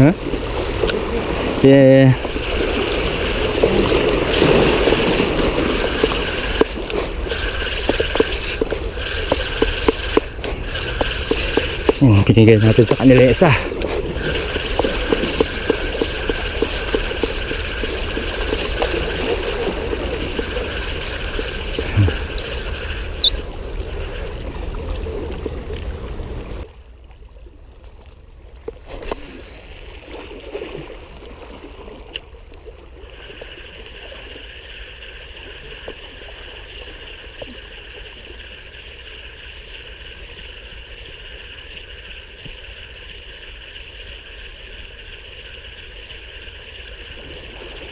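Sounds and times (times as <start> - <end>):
water lapping against rocks: 0.0 - 42.7.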